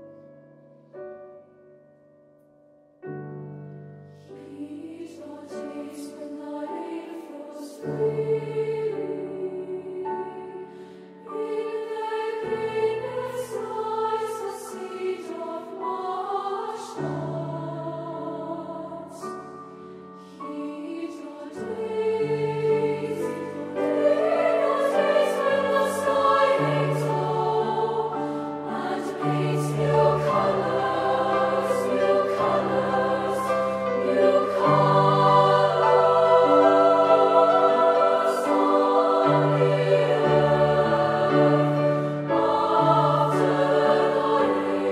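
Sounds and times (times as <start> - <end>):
grand piano accompaniment: 0.0 - 44.9
girls' choir singing: 4.3 - 19.6, 20.2 - 44.9.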